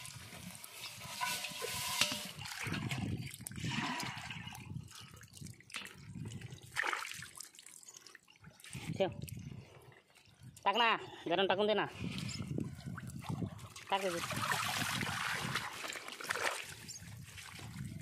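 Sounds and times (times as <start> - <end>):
water splashing and sloshing: 0.0 - 10.6, 12.0 - 18.0.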